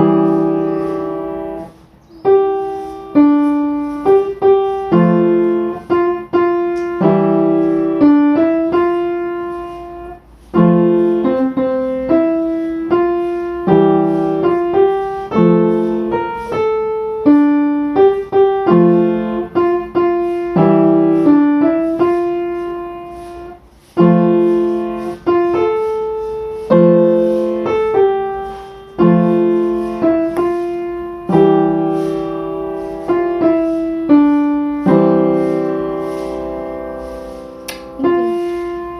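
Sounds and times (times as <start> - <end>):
solo piano music: 0.0 - 38.9.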